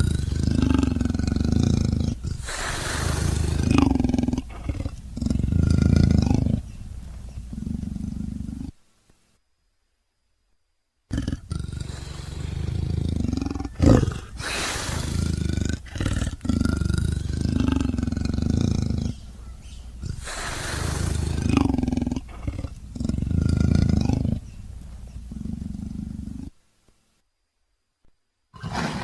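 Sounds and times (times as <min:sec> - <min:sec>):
low rough growling roars: 0:00.0 - 0:08.7, 0:11.1 - 0:26.5.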